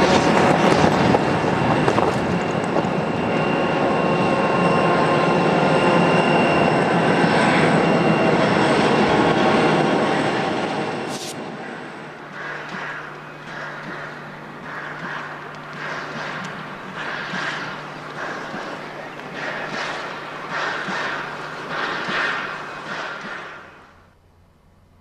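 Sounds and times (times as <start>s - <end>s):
steam locomotives running: 0.0s - 24.2s.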